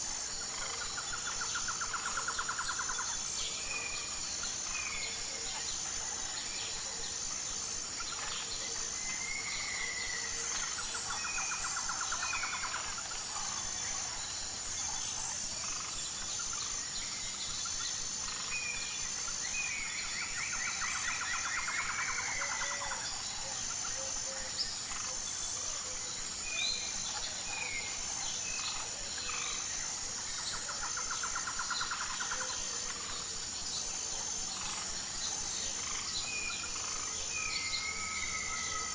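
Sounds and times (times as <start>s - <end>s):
high insect buzz: 0.0s - 38.9s.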